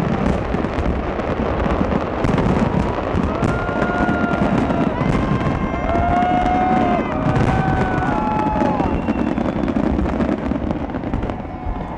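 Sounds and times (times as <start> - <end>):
fireworks rumble and crackle: 0.0 - 11.9.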